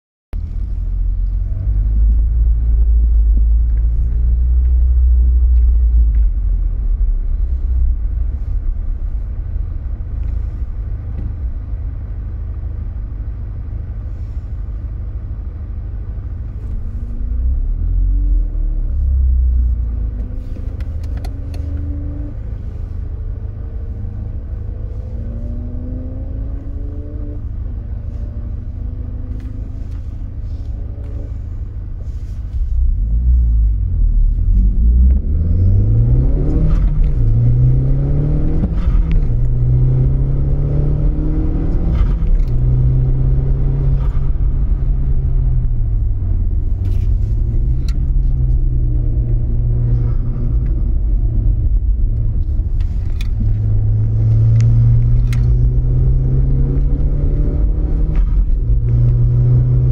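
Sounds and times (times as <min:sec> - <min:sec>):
car engine rumbling and accelerating: 0:00.3 - 0:59.9.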